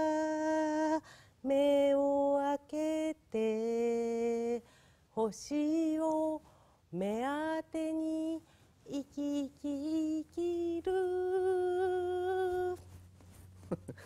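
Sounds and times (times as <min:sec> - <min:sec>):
woman singing unaccompanied: 0:00.0 - 0:12.9.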